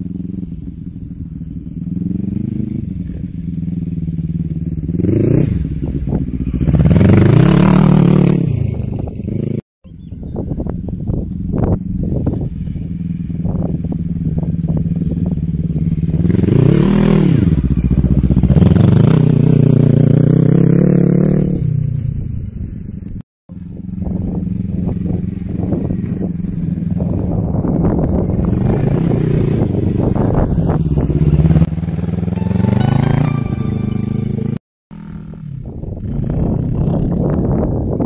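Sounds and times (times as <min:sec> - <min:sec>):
quad bike engine revving: 0:00.0 - 0:22.0, 0:23.6 - 0:38.0.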